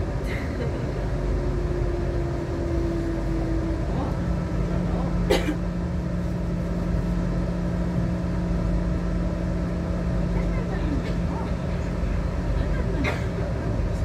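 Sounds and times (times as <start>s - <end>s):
train interior rumble: 0.0s - 14.0s.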